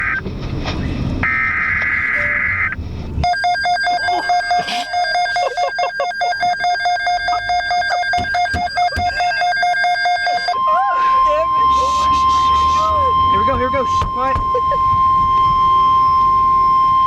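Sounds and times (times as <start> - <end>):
buzzy digital data tones: 2.0 - 17.0
electronic alert tone switching pitches: 3.2 - 17.0.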